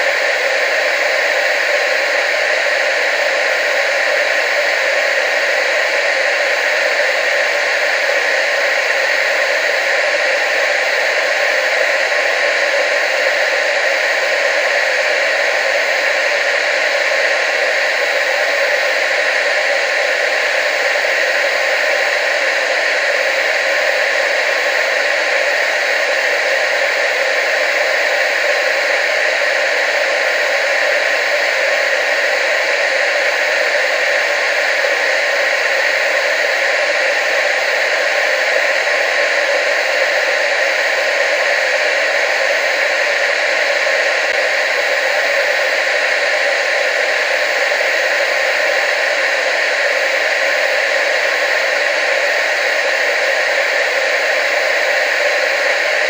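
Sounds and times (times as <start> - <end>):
tv static hiss: 0.0 - 56.0.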